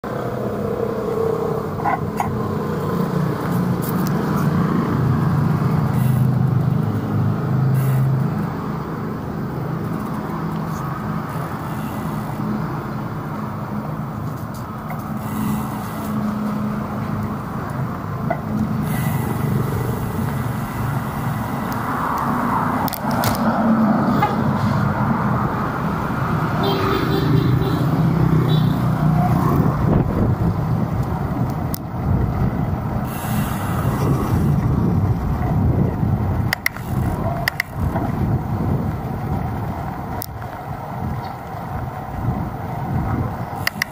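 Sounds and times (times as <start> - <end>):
motorbike engines running: 0.0 - 43.9
street traffic: 0.0 - 43.9.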